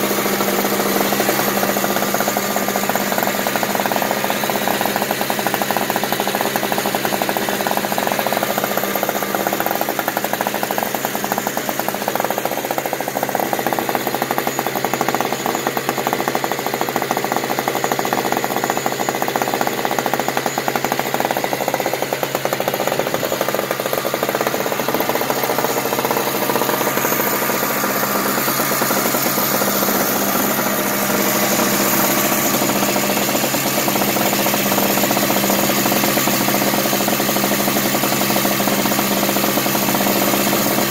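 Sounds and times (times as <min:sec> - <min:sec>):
snow blower engine running: 0:00.0 - 0:40.9.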